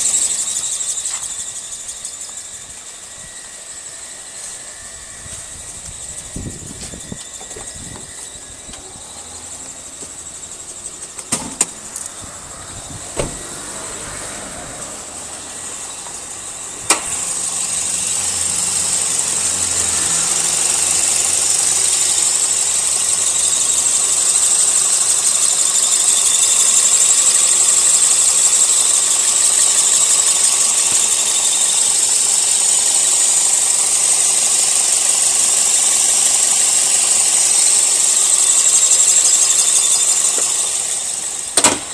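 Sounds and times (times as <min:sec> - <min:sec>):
car engine running: 0:00.0 - 0:41.9
drive belt squealing: 0:00.0 - 0:41.9.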